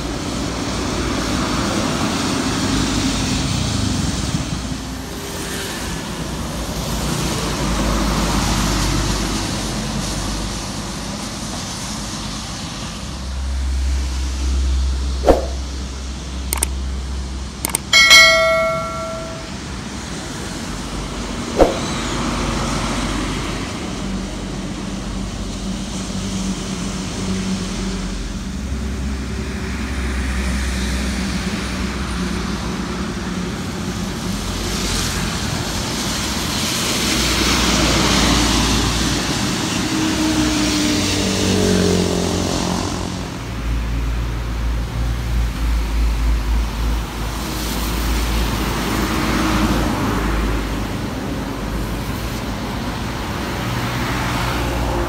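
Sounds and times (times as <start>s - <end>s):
tyres hissing on wet road: 0.0s - 15.2s, 22.1s - 55.0s
diesel engines passing: 0.0s - 55.0s.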